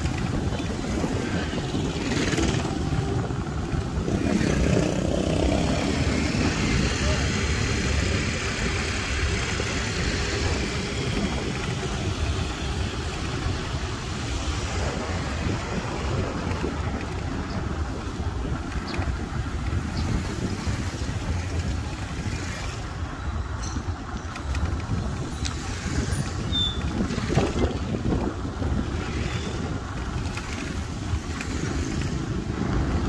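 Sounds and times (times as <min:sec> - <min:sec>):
passing vehicles rumbling: 0:00.0 - 0:33.0
wind buffeting microphone: 0:00.0 - 0:33.0.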